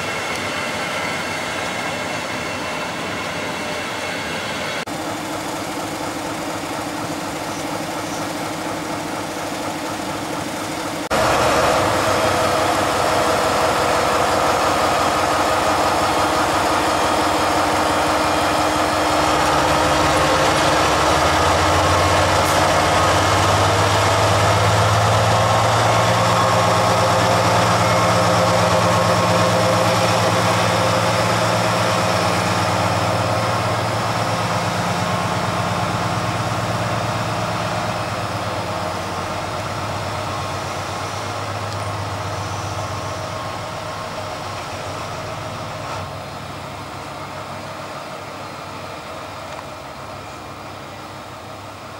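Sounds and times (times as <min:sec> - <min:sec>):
diesel locomotive engine running: 0:00.0 - 0:51.9.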